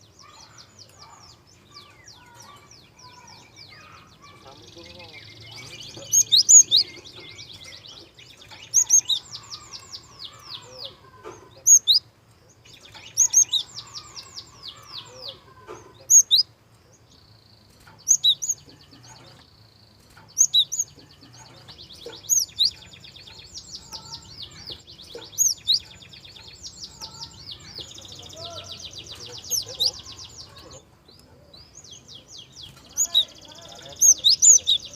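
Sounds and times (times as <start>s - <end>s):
bird chirping and twittering: 0.0s - 34.9s.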